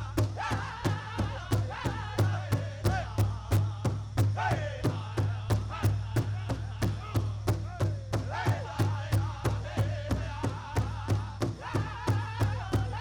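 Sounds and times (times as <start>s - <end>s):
big drum beating steadily: 0.0s - 13.0s.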